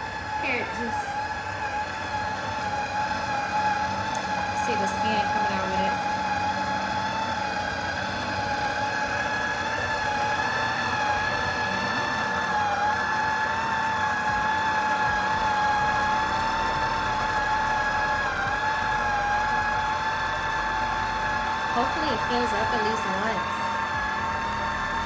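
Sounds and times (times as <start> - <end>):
electric juicer motor whining: 0.0 - 25.0.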